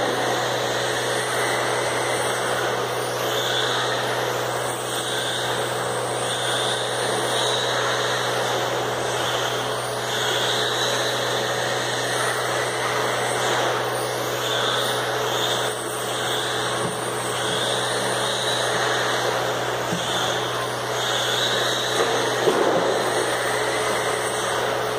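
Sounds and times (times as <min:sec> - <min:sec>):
radio-controlled cars motor whine: 0:00.0 - 0:24.9.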